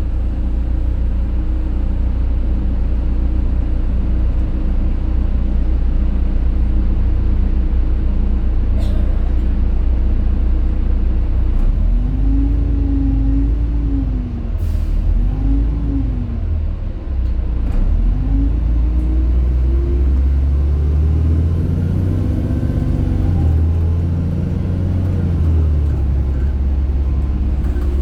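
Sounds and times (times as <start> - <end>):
bus drivetrain whining: 0.0 - 28.0
heavy low engine rumble: 0.0 - 28.0.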